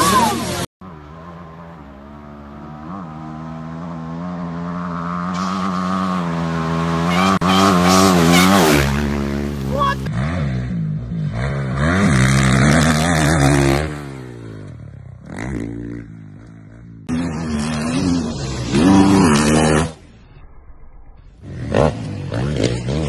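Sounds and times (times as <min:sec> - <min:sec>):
dirt bike engines revving: 0:00.0 - 0:20.3, 0:21.2 - 0:23.0.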